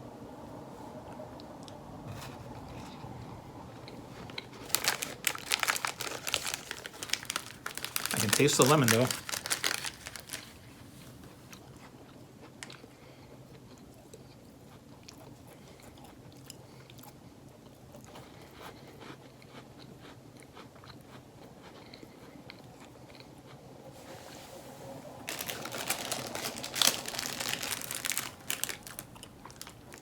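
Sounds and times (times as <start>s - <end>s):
low steady hum: 0.0s - 19.4s, 20.2s - 30.0s
biscuit chewing and crunching: 1.4s - 23.9s, 25.0s - 30.0s.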